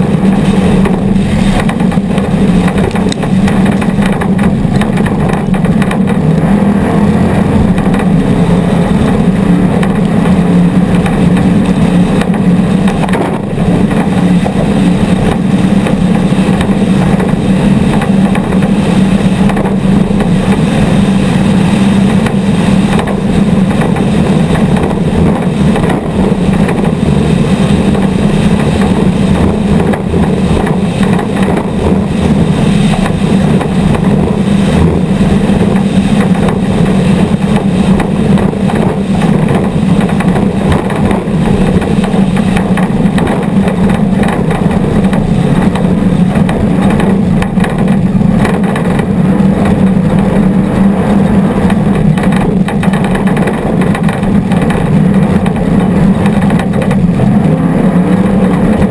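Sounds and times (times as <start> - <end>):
race vehicle engine running hard: 0.0 - 58.9.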